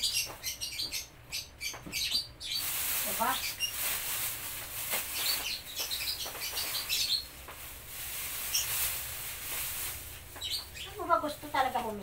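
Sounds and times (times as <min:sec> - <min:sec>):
birds chirping: 0:00.0 - 0:07.6, 0:08.4 - 0:09.0, 0:10.1 - 0:12.0.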